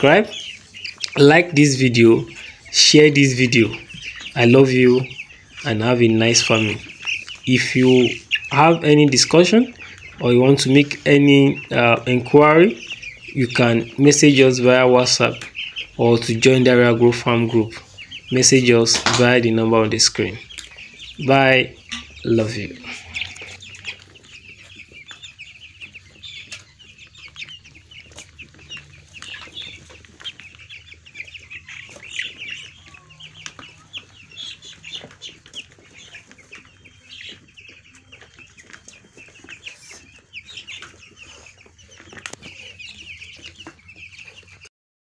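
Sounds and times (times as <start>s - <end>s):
chicks peeping: 0.0s - 44.7s.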